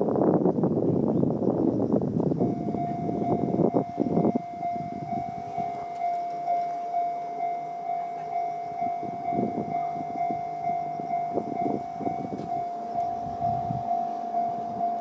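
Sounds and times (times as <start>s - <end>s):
low rumbling: 0.0s - 15.0s
level crossing warning bell: 2.3s - 15.0s.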